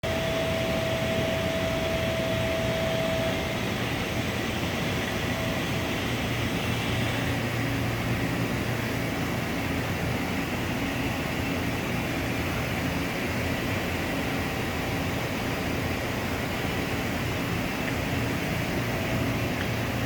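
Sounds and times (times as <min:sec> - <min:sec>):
machining center hum and hiss: 0:00.0 - 0:20.0
thin mechanical whine: 0:00.0 - 0:20.0.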